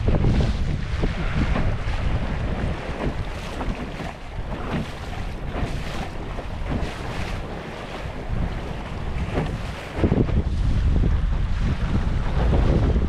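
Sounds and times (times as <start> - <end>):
water rushing along boat hull: 0.0 - 13.0
wind buffeting microphone: 0.0 - 13.0.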